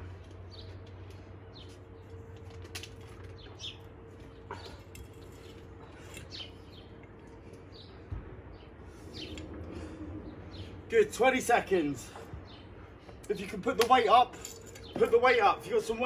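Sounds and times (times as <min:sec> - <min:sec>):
birds chirping: 0:00.0 - 0:16.0
low steady hum: 0:00.0 - 0:16.0.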